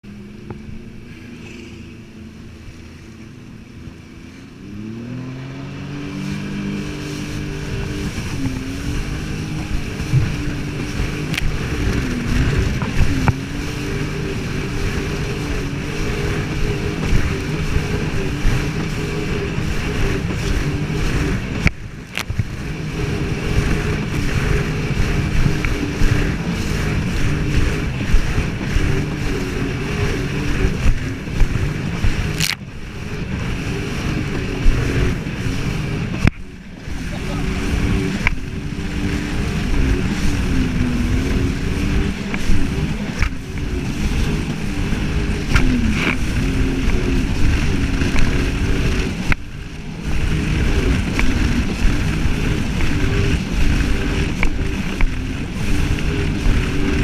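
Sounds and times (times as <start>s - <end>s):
jet ski engine revving: 0.0s - 57.0s
rush of water and wind: 0.0s - 57.0s.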